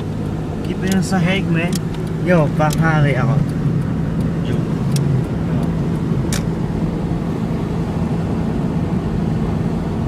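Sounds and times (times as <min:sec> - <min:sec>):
car cabin drone: 0:00.0 - 0:10.0.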